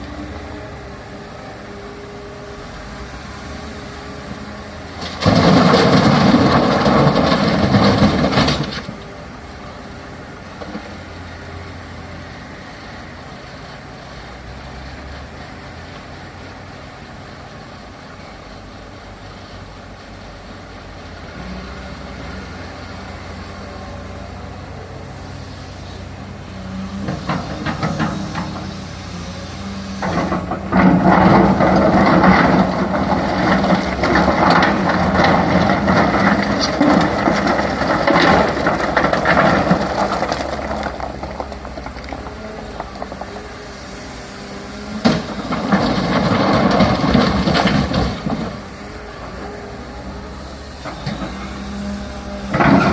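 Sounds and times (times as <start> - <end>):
diesel engine running: 0.0 - 52.9
excavator clattering and scraping: 0.0 - 52.9.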